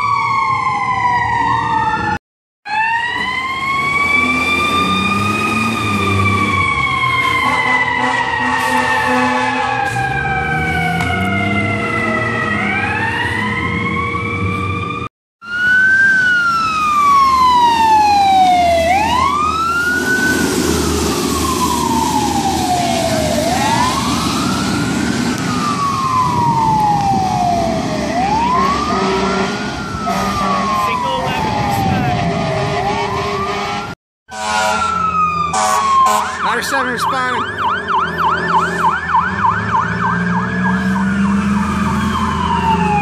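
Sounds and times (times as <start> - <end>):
fire engine sirens wailing: 0.0 - 43.0.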